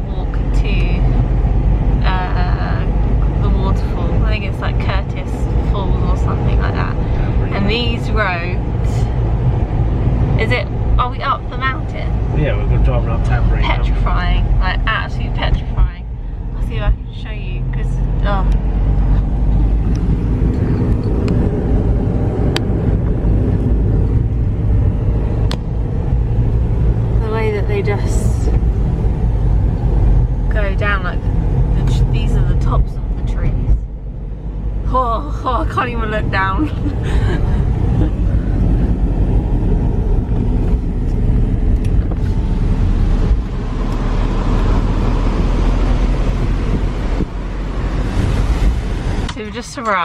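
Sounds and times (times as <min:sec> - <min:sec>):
car engine and road rumble: 0:00.0 - 0:50.0.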